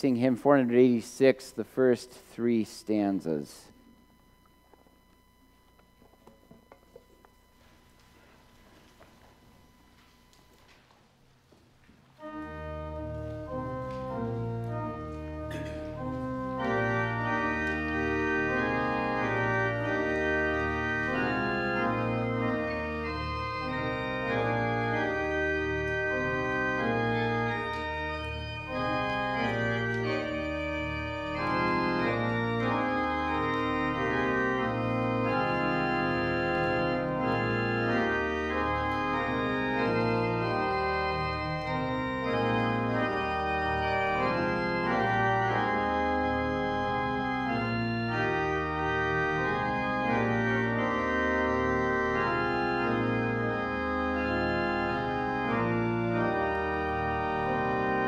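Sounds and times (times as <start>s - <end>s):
church organ playing a hymn: 0.0s - 10.9s, 11.5s - 58.0s.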